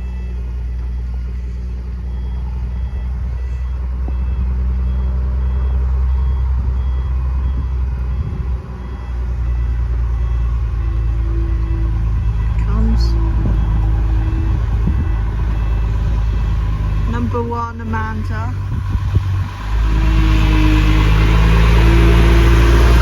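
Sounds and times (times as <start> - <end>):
level crossing alarm beeps: 0.0 - 18.6
locomotive engine running: 0.0 - 23.0.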